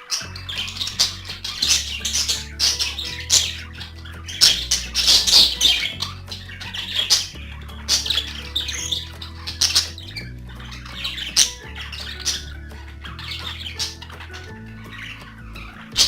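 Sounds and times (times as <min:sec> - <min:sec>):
background music with bass: 0:00.0 - 0:16.0
budgerigars chattering and squawking: 0:00.0 - 0:16.0.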